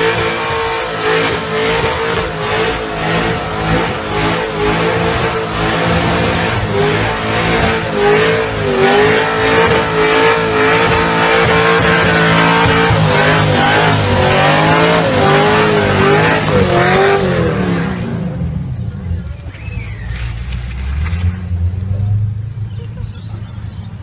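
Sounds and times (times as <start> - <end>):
car engine at high revs: 0.0 - 23.4.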